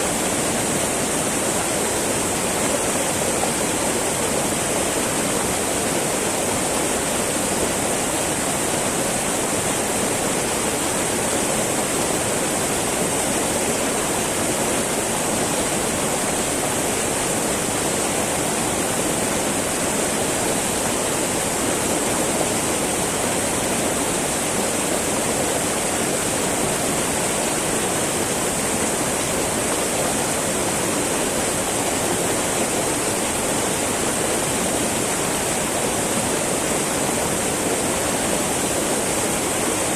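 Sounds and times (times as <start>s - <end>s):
river babbling over rocks: 0.0s - 39.9s.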